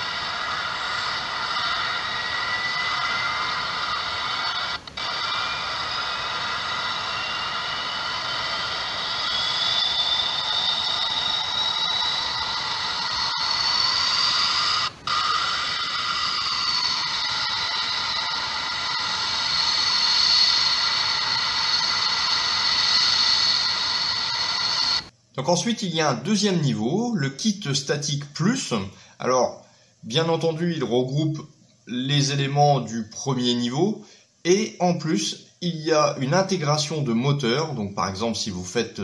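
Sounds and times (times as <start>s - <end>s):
jet turbine whine from small speaker: 0.0s - 39.0s.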